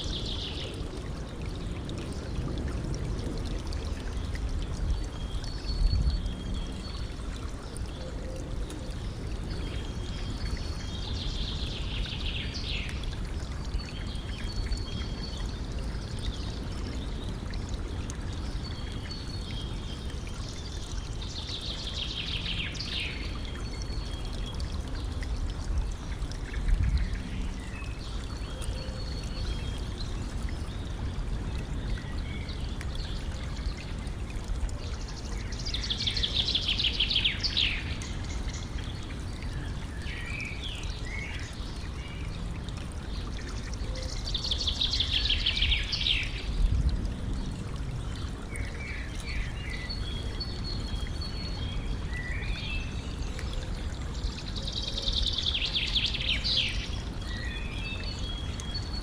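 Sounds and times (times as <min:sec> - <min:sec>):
stream trickling and splashing: 0:00.0 - 0:59.0.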